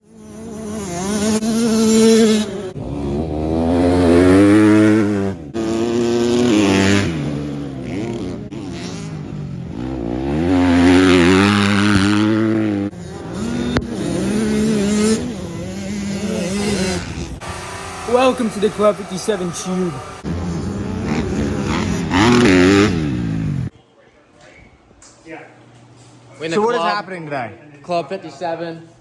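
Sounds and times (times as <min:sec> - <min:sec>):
dirt bike engine revving: 0:00.0 - 0:23.7.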